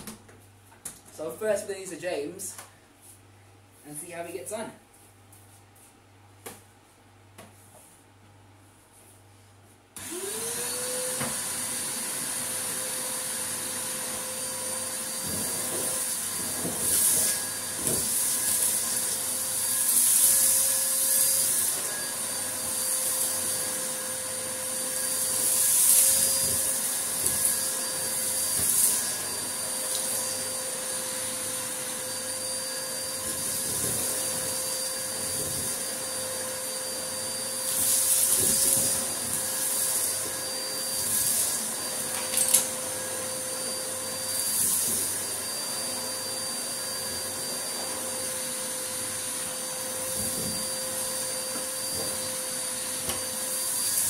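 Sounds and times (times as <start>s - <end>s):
vacuum cleaner running: 10.0s - 54.0s.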